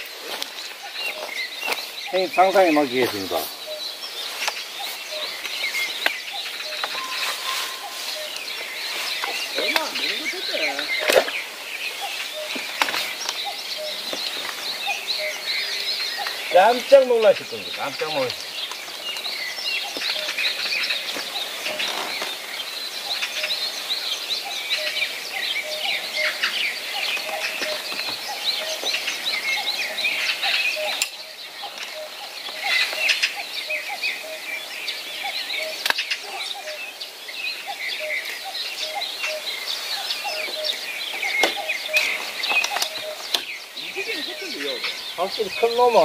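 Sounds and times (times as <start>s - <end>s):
birds chirping and calling: 0.0s - 46.0s.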